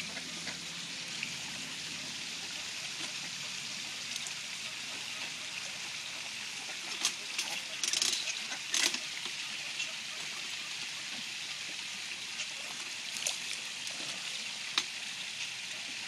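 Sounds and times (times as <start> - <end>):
ducks splashing on pond: 0.0 - 16.0
running water rushing: 0.0 - 16.0.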